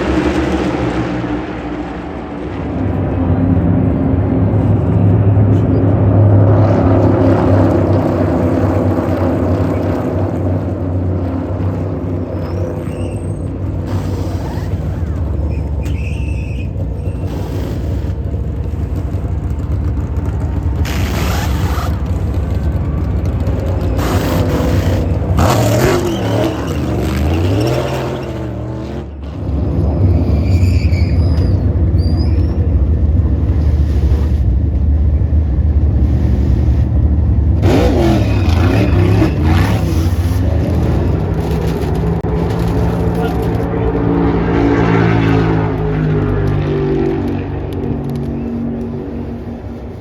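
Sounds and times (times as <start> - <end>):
race cars passing: 0.0 - 50.0.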